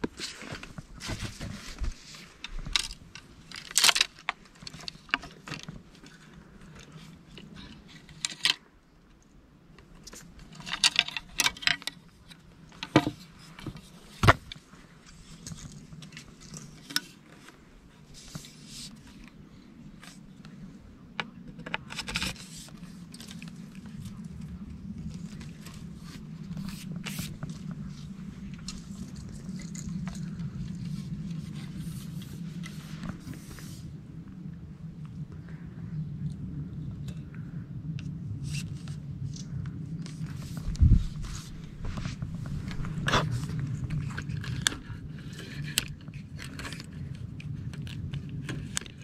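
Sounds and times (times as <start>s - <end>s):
handling clicks and scrapes: 0.0s - 8.6s, 9.9s - 19.4s, 21.2s - 33.9s, 38.4s - 49.0s
faint low hum: 0.0s - 49.0s.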